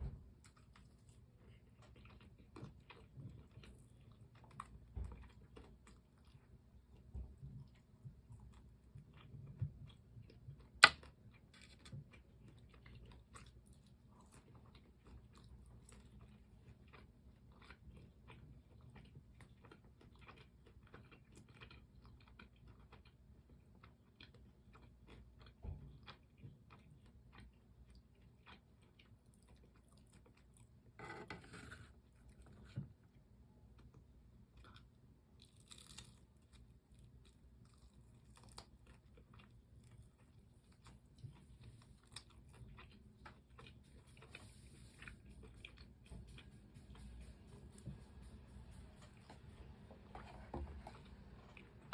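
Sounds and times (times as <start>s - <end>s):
chewing crunchy food: 0.2s - 51.9s.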